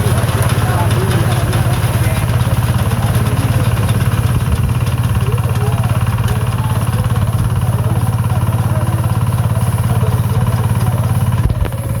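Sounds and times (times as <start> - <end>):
combine harvester engine throbbing: 0.0 - 12.0.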